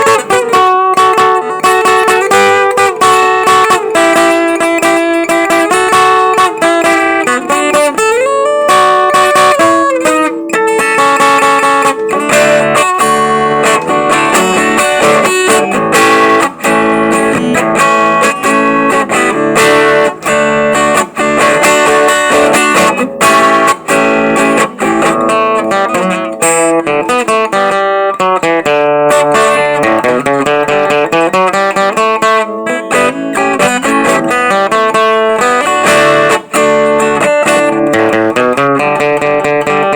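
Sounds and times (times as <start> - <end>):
acoustic guitar melody: 0.0 - 39.9.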